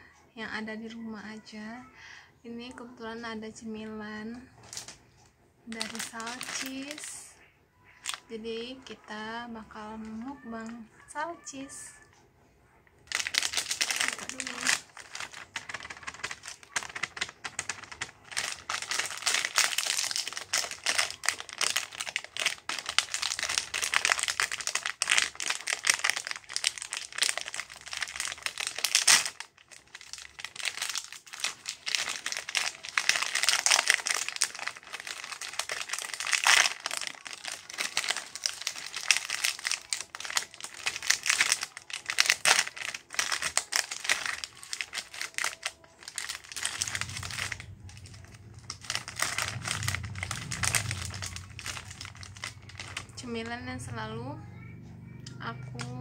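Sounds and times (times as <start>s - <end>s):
plastic packaging crinkling: 4.2s - 5.1s, 5.7s - 11.8s, 13.0s - 54.0s.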